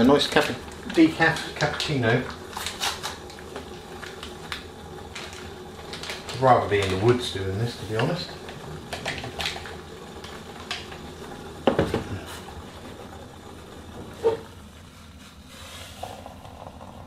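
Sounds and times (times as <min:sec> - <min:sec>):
water pouring into mug: 0:00.0 - 0:14.6, 0:15.8 - 0:17.0.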